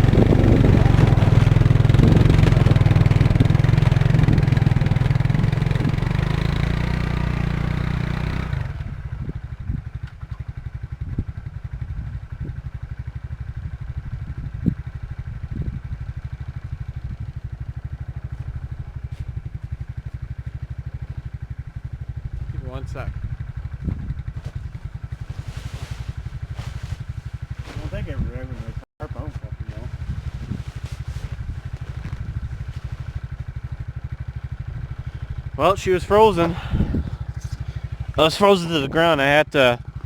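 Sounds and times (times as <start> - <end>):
quad bike engine: 0.0 - 40.0.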